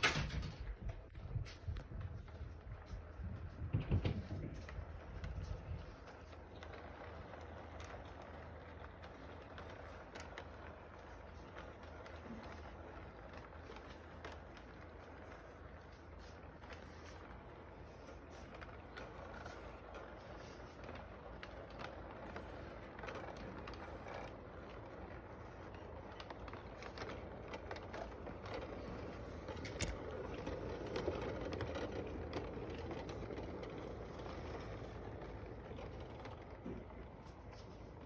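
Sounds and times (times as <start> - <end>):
toy train motor hum: 4.0 - 38.0
toy train wheels clicking and rattling: 6.0 - 38.0.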